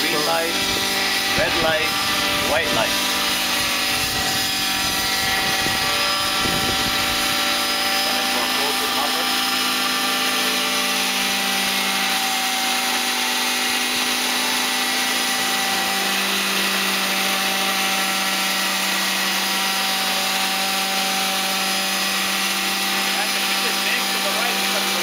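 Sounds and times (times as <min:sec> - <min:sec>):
model helicopter engine whine: 0:00.0 - 0:25.0.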